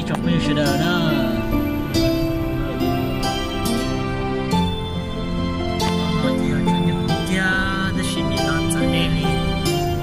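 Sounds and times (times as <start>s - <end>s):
background music chords: 0.0s - 10.0s.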